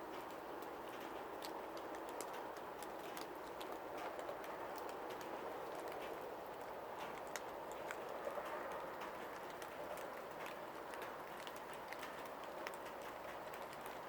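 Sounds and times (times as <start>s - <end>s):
drops ticking on hard surfaces: 0.0s - 14.0s
rain hiss: 0.0s - 14.0s.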